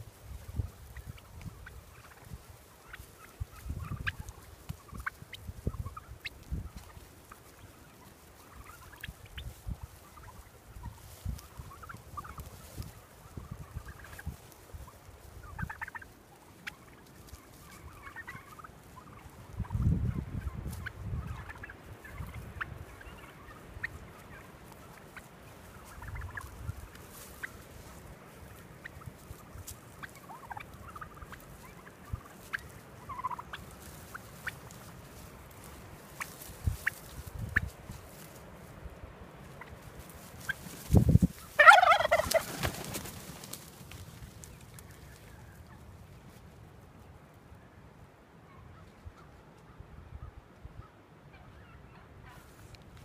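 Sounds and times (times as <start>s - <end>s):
turkeys calling: 0.0s - 53.0s.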